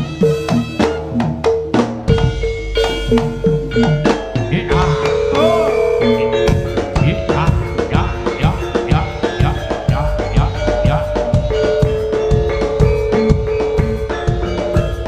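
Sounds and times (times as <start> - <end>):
fast steady drumming: 0.0 - 15.0
ringing metal tones: 1.9 - 15.0.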